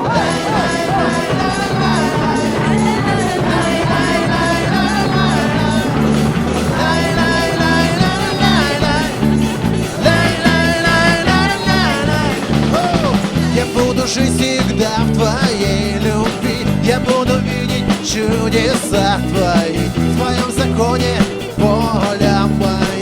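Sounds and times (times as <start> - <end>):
band playing upbeat song: 0.0 - 23.0
person singing: 0.0 - 23.0.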